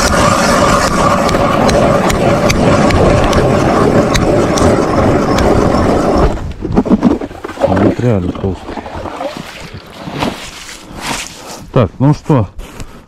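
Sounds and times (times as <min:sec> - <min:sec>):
ice auger drilling: 0:00.0 - 0:11.4.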